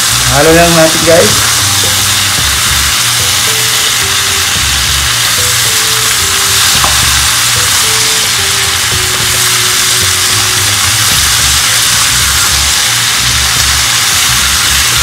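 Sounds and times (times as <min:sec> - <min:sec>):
food sizzling in a pan: 0:00.0 - 0:15.0
soft background music: 0:00.0 - 0:15.0.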